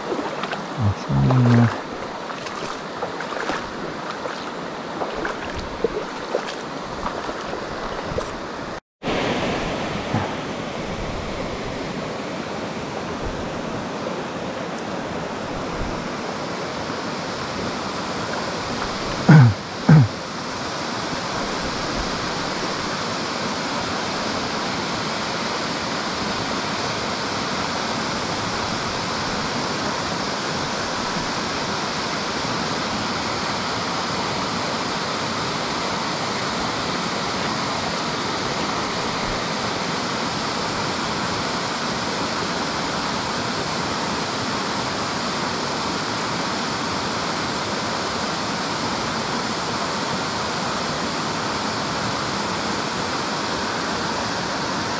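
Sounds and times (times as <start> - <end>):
fast-flowing river rushing: 0.0 - 54.9.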